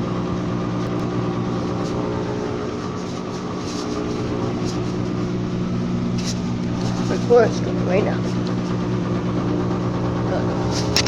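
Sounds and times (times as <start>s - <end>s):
electrical machine hum: 0.0s - 11.0s.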